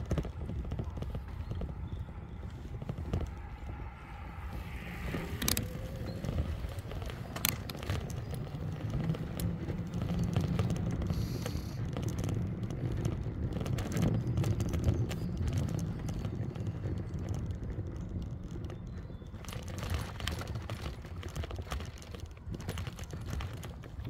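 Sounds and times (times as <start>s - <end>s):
bike clicks and rattles: 0.0s - 24.0s
wind rumbling on microphone: 0.0s - 24.0s.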